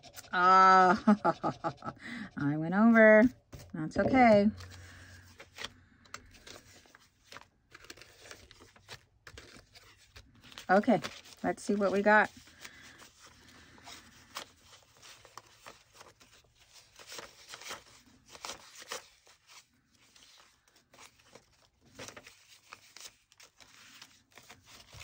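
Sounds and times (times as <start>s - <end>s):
banknotes rustling: 2.8s - 25.0s.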